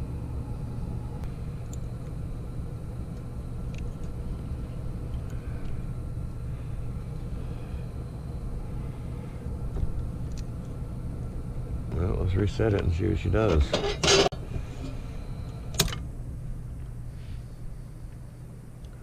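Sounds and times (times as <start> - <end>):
hvac equipment humming: 0.0 - 19.0.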